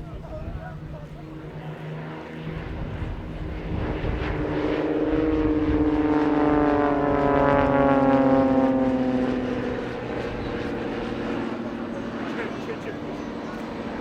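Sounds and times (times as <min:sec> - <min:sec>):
propeller aircraft flying past: 0:00.0 - 0:14.0.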